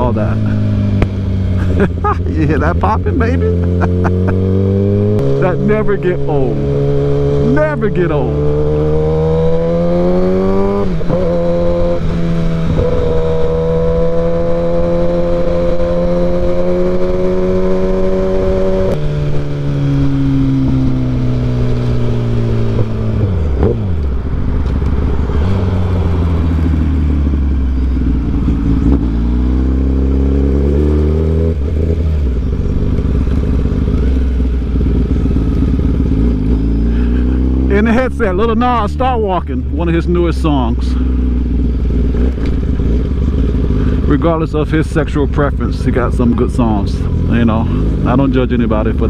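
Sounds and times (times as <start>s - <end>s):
motorcycle engine: 0.0s - 49.0s.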